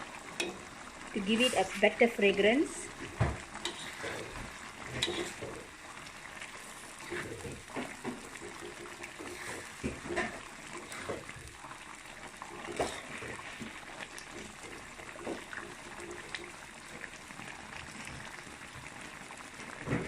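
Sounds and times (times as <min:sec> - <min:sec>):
curry sizzling on a griddle: 0:00.0 - 0:20.0.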